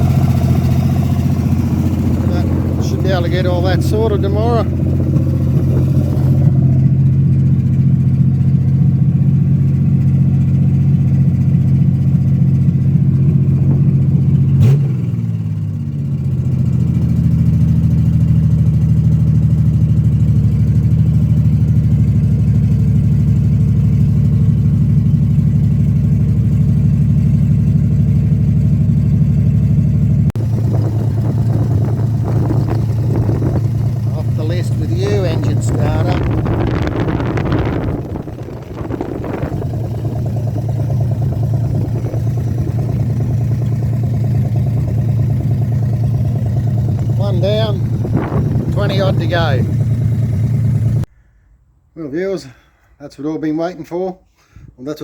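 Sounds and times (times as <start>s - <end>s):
car engine idling loudly: 0.0s - 51.1s.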